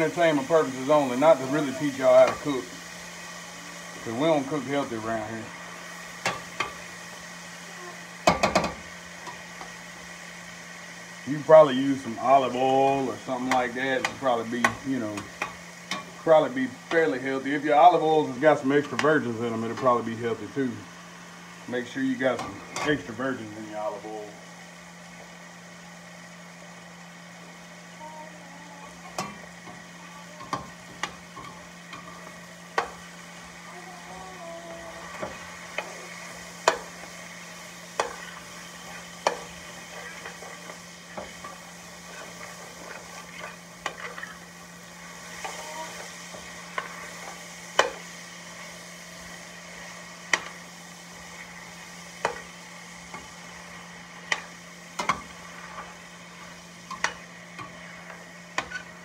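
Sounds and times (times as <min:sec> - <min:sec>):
vegetables sizzling: 0:00.0 - 0:59.0.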